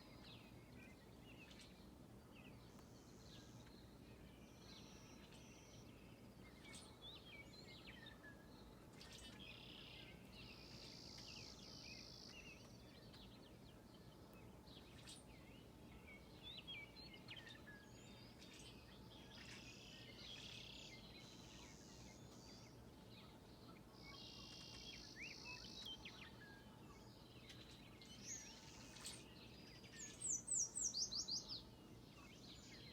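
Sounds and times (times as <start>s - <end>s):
songbirds singing: 0.0s - 32.9s.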